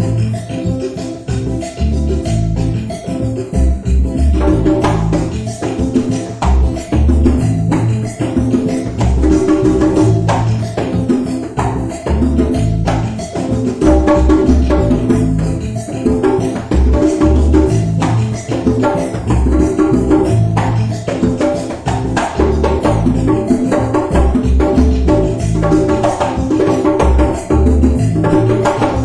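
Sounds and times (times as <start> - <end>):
music with percussive beat and bass: 0.0 - 29.0.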